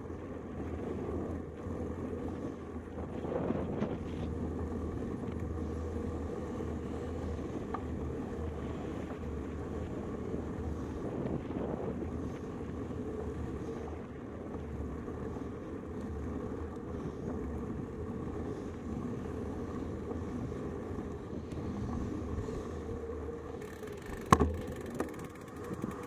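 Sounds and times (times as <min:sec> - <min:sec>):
bike tyres rolling rumble: 0:00.0 - 0:26.0
wind noise: 0:00.0 - 0:26.0.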